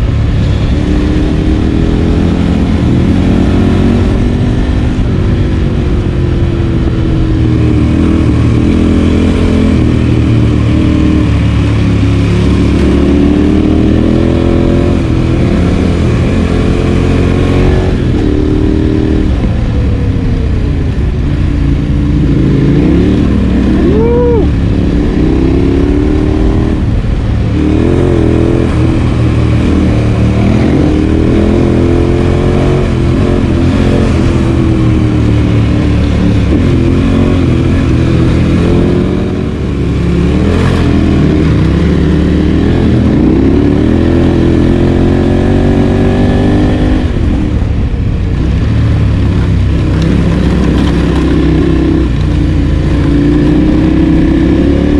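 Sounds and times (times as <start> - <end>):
motorcycle engine revving: 0.0 - 54.9
steady rushing noise: 0.0 - 54.9.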